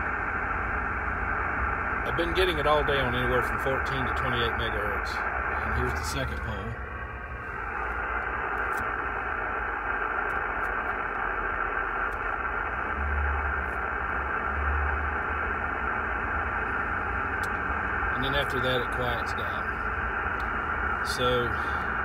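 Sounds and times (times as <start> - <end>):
radio hiss with buzzing tone: 0.0 - 22.0.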